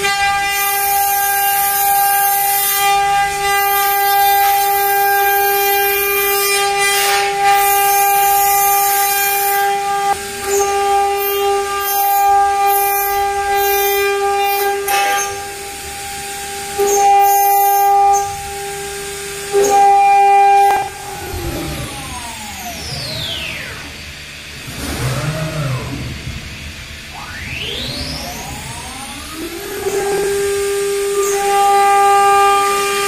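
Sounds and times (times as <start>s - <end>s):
milling spindle whine: 0.0s - 33.0s.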